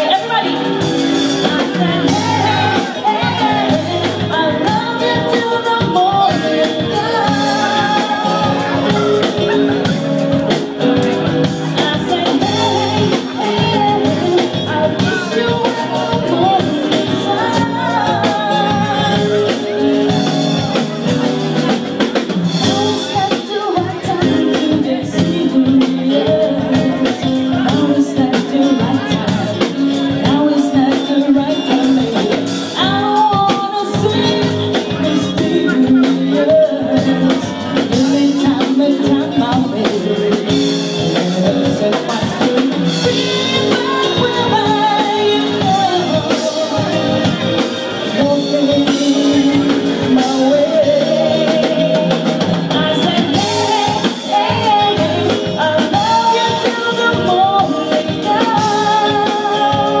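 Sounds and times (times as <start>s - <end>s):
live band playing: 0.0s - 60.0s
person singing: 0.0s - 60.0s.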